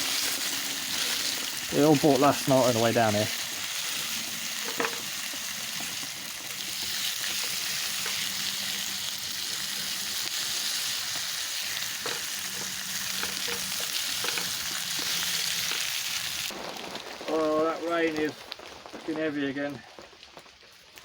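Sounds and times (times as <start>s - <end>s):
bacon sizzling in a pan: 0.0s - 21.0s.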